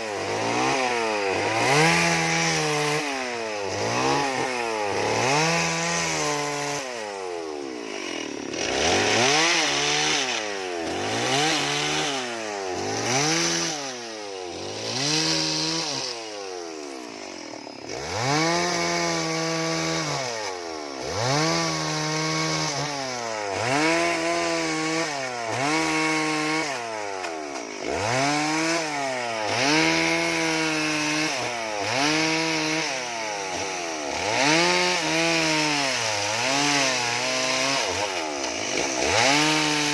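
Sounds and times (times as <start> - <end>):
chainsaw revving into wood: 0.0 - 39.9.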